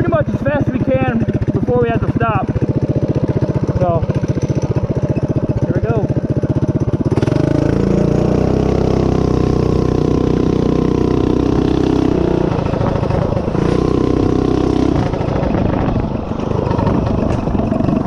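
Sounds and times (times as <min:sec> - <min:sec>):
mini bike engine revving: 0:00.0 - 0:18.0.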